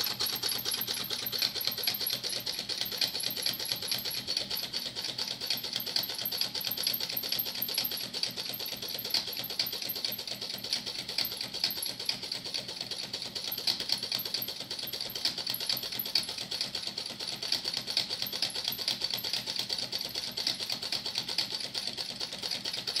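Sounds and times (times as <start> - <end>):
small engine rapid clicking: 0.0 - 23.0.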